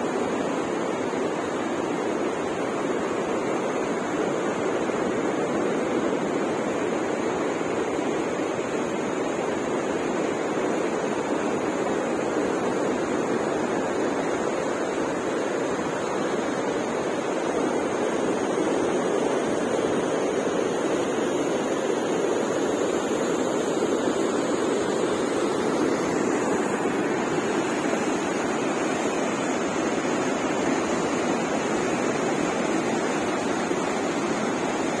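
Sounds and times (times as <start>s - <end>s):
river rushing and churning: 0.0s - 35.0s.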